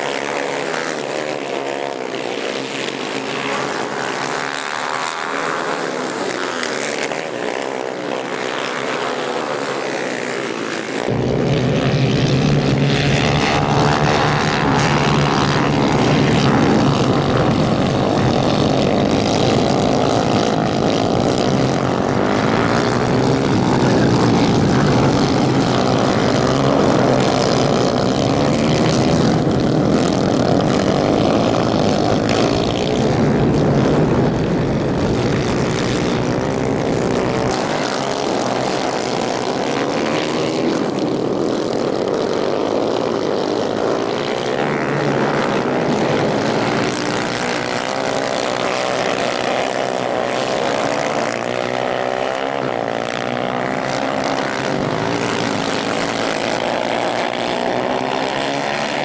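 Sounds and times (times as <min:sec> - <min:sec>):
kart engines buzzing at high revs: 0:00.0 - 0:59.0.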